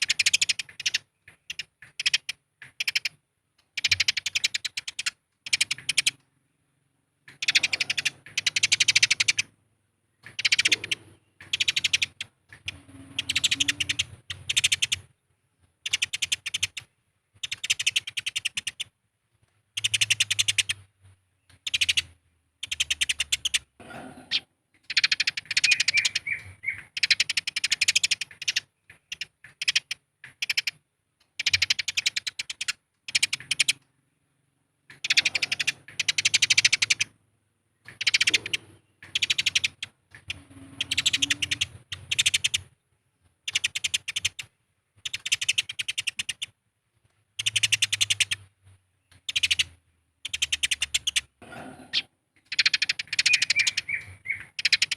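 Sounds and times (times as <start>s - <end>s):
sparrows chattering chirps: 0.0s - 6.2s, 7.2s - 15.2s, 15.8s - 18.9s, 19.7s - 30.8s, 31.4s - 42.8s, 43.4s - 46.6s, 47.4s - 54.9s.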